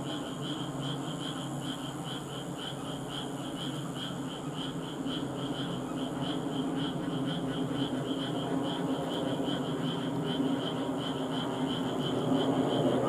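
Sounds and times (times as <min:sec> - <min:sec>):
cricket chirping: 0:00.0 - 0:13.0
steady low hum: 0:00.0 - 0:13.0.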